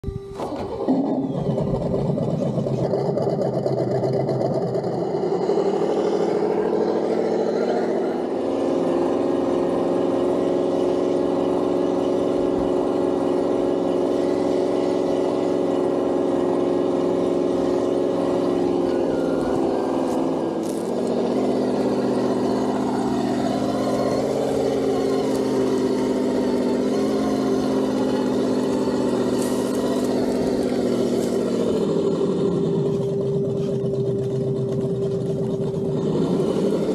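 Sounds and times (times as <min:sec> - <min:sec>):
simulated engine sound: 0:00.0 - 0:36.9.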